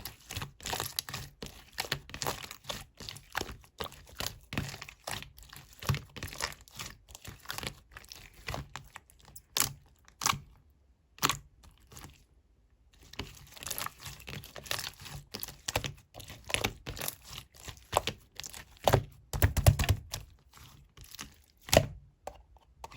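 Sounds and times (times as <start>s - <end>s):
slime squishing with sticky clicks: 0.0s - 22.9s.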